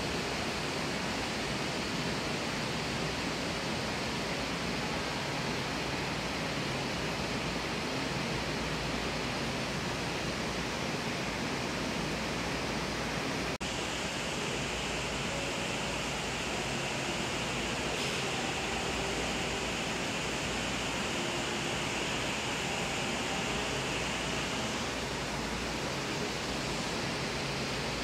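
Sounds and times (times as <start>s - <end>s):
indoor water feature rushing: 0.0s - 28.0s.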